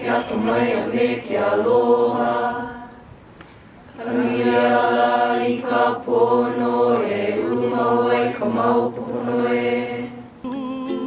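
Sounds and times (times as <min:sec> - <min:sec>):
crowd chanting in unison: 0:00.0 - 0:03.0, 0:04.0 - 0:10.3.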